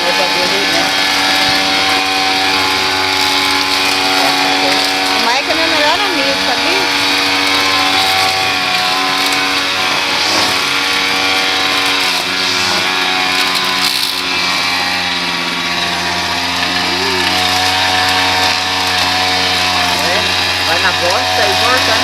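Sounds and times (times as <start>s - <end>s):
small petrol engine running: 0.0s - 22.0s.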